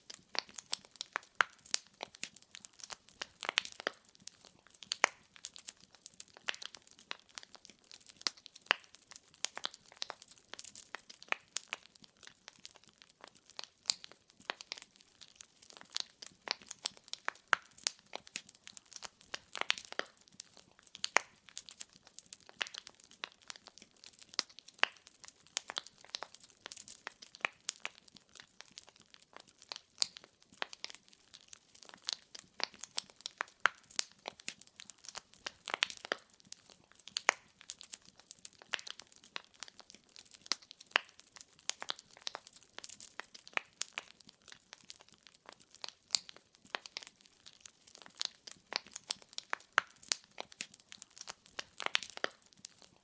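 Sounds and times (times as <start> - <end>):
firewood crackling and popping: 0.0 - 53.0.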